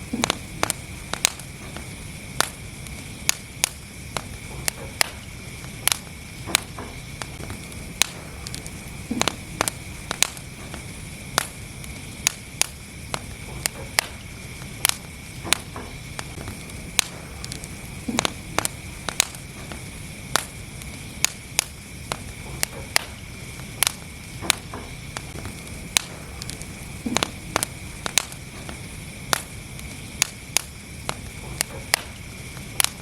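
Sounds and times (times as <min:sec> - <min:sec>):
fire hiss: 0:00.0 - 0:33.0
wood fire crackling and popping: 0:00.0 - 0:33.0.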